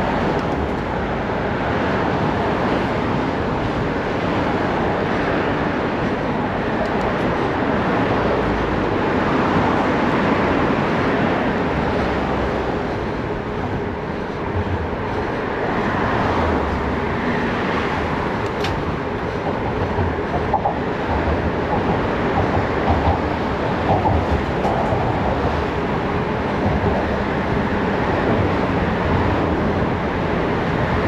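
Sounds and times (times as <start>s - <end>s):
traffic: 0.0s - 31.0s.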